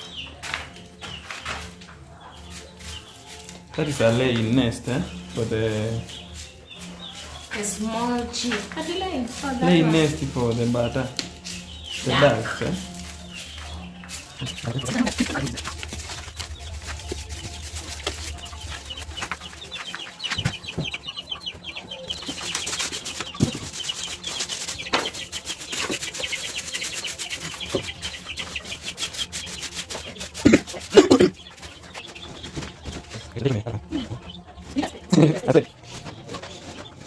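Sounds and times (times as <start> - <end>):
chickens and chicks peeping clucking: 0.0 - 37.0.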